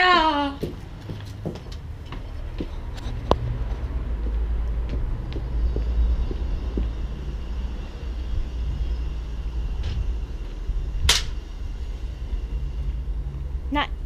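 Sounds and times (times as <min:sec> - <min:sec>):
wind rumble: 0:00.6 - 0:14.0.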